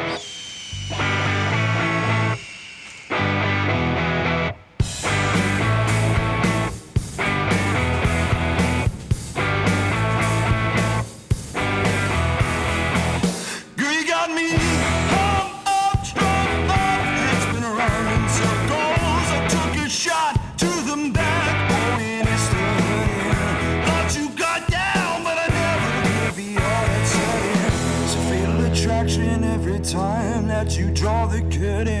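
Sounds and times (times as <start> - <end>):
rock music with guitars and bass: 0.0 - 2.4, 3.1 - 13.6, 14.5 - 32.0.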